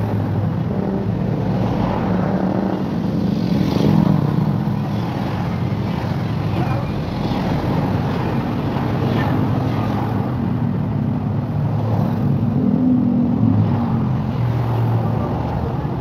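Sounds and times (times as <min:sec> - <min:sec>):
cars passing: 0:00.0 - 0:16.0
motorcycles passing: 0:00.0 - 0:16.0.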